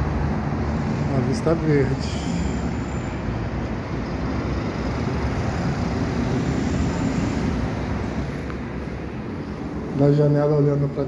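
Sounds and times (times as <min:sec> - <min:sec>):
city traffic rumble: 0:00.0 - 0:11.0
engine hum: 0:00.0 - 0:11.0.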